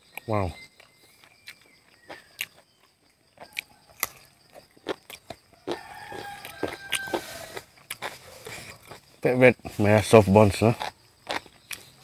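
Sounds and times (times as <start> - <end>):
person chewing and smacking: 0.1 - 9.1, 10.7 - 12.0.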